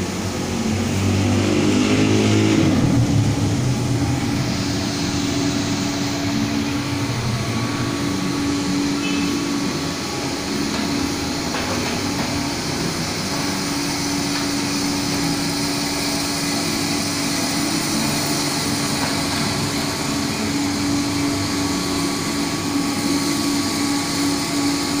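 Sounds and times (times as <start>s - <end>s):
coffee roaster drone: 0.0s - 25.0s.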